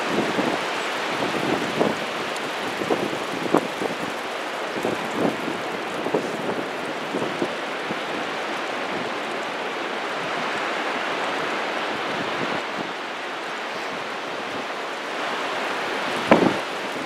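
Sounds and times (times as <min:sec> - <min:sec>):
ocean surf washing up beach: 0:00.0 - 0:17.0.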